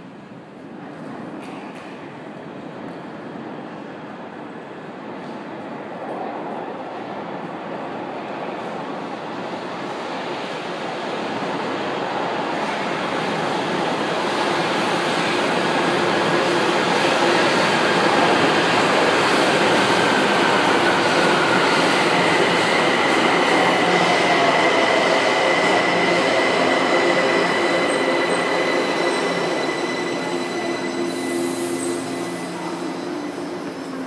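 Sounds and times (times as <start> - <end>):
train wheels rushing on rails: 0.0 - 34.0.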